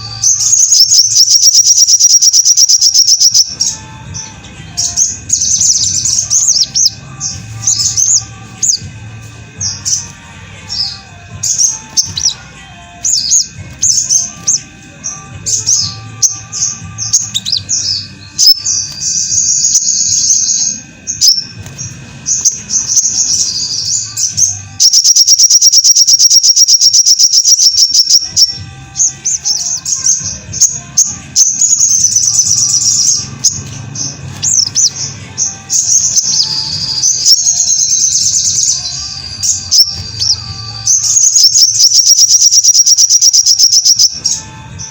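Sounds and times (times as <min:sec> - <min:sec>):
bird chirping and warbling: 0:00.0 - 0:44.9
loud rapid bird trill: 0:00.0 - 0:44.9.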